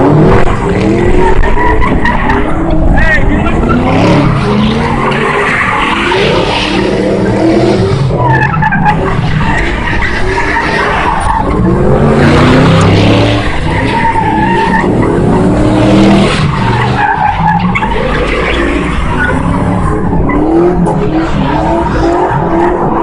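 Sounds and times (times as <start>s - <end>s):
car engines revving: 0.0s - 23.0s
tyres screeching: 0.3s - 23.0s.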